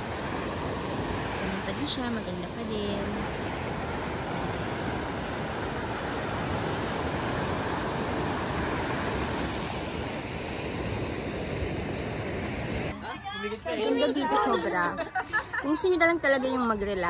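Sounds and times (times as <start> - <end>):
sea surf: 0.0 - 16.7
wind at the shore: 0.0 - 17.0.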